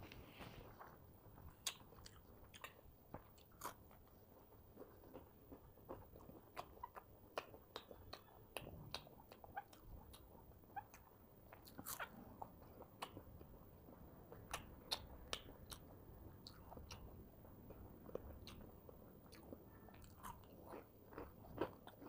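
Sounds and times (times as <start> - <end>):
crunchy food chewing: 0.1 - 22.0.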